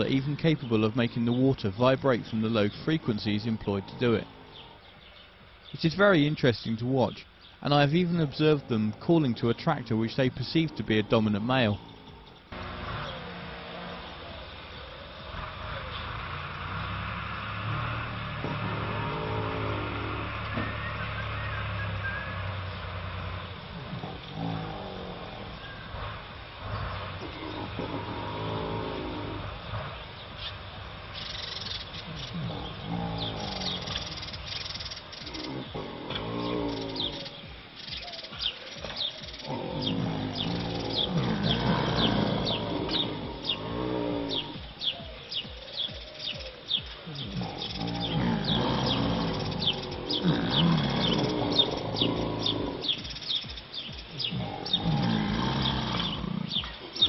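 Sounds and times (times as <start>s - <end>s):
bird chirping: 0.0s - 57.0s
alligators bellowing: 7.7s - 45.7s, 46.3s - 57.0s.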